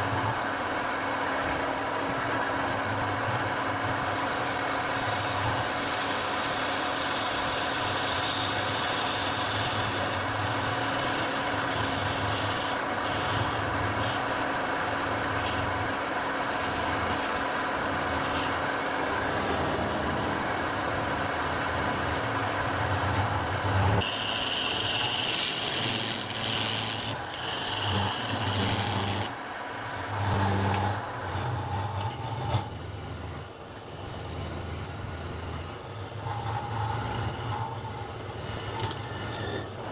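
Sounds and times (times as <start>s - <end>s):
lathe motor hum: 0.0s - 39.9s
tool scraping spinning wood: 3.9s - 39.9s.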